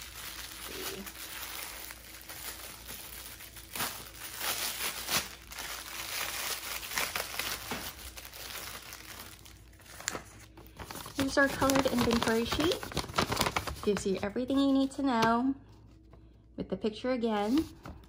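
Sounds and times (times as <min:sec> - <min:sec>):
paper crinkling: 0:00.0 - 0:15.0.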